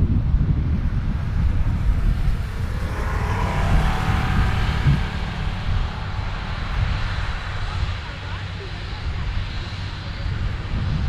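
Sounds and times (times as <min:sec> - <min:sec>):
diesel engine deep rumble: 0:00.0 - 0:11.0.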